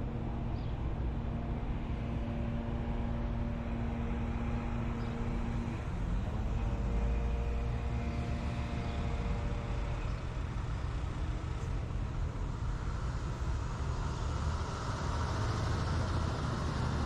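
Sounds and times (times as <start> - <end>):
humming engine note: 0.0 - 17.0
road and engine rumble: 0.0 - 17.0.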